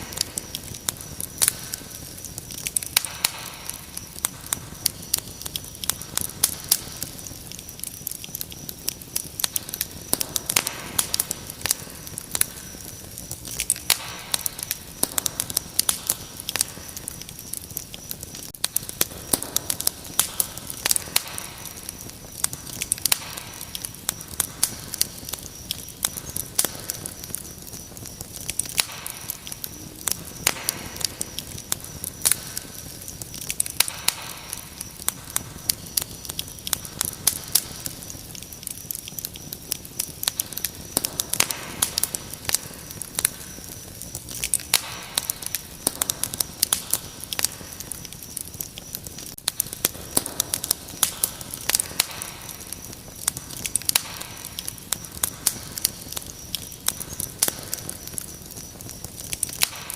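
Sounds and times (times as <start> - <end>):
wood fire crackling and popping: 0.0 - 59.9
crickets chirring: 0.1 - 59.9.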